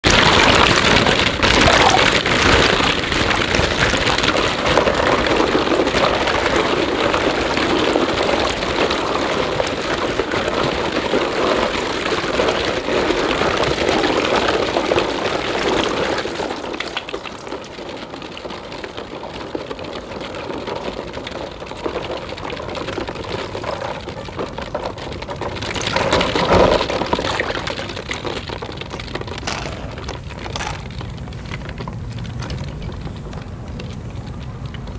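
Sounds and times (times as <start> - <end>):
plastic balls clattering: 0.0 - 34.9.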